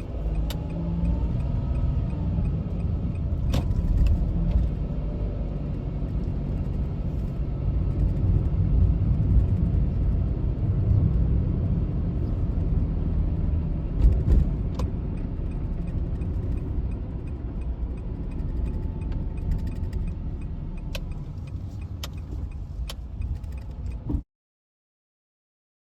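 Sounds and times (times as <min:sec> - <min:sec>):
car road and engine rumble: 0:00.0 - 0:24.2.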